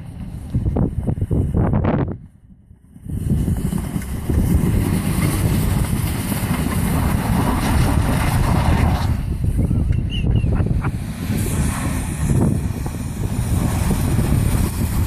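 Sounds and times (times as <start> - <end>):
truck engine rumbling: 0.0 - 15.0
wind buffeting microphone: 0.0 - 15.0.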